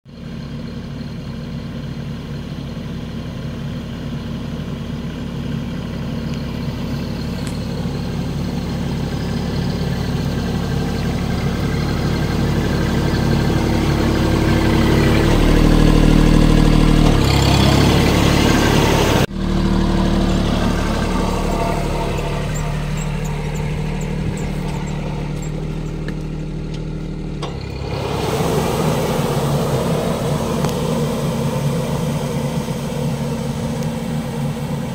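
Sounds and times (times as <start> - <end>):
tractor diesel engine running: 0.0 - 34.9
sprayer fan: 6.4 - 34.9.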